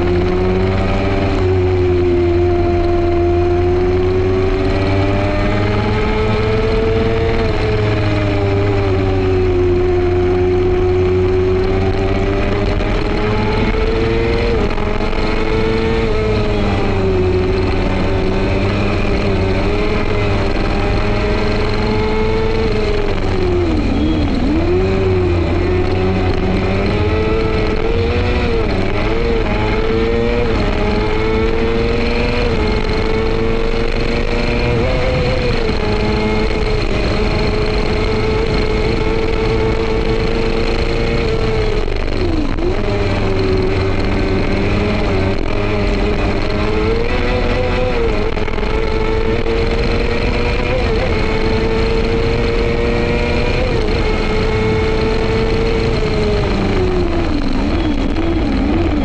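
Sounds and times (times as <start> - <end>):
racing engine at high revs: 0.0 - 59.0.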